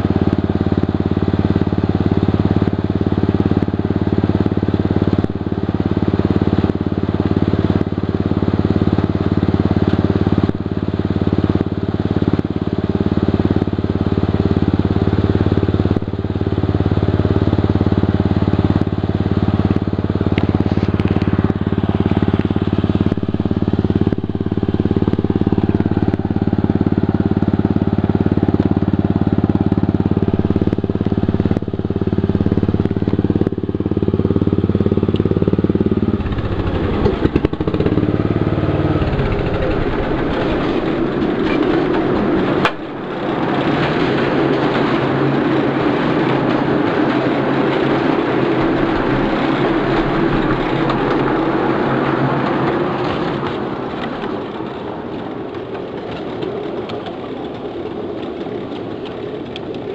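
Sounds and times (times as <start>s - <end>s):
model locomotive engine idling: 0.0s - 59.9s
train running along track: 0.0s - 59.9s.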